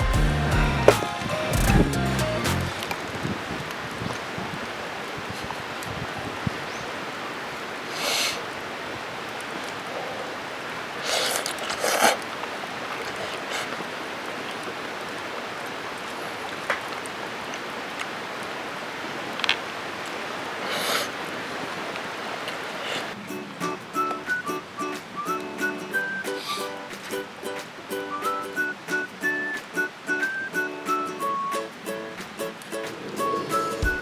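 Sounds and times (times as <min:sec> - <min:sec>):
steady outdoor hiss: 0:00.0 - 0:34.0.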